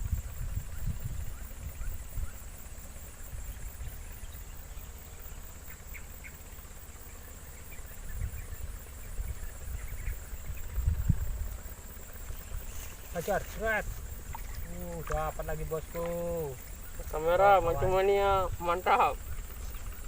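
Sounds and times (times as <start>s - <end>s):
low rumbling on microphone: 0.0s - 5.6s, 7.6s - 20.0s
faint bird chirps: 0.0s - 18.0s
insect drone: 0.0s - 20.0s.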